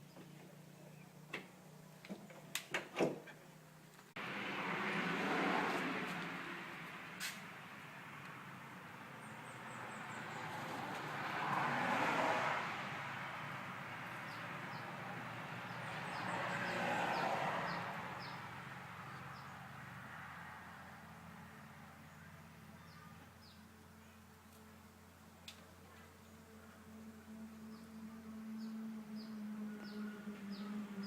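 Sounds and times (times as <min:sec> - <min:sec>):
vehicles passing by: 0:00.0 - 0:31.0.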